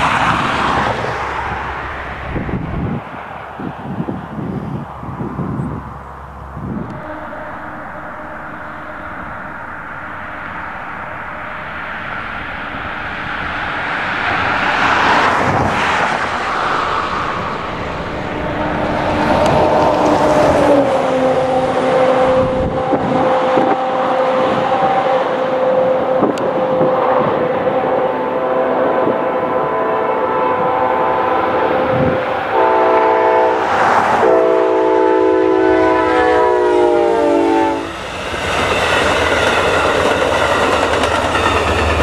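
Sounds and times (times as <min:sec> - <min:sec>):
road vehicle passing: 0:00.0 - 0:42.0
crossing warning tones: 0:03.9 - 0:14.6, 0:16.6 - 0:42.0.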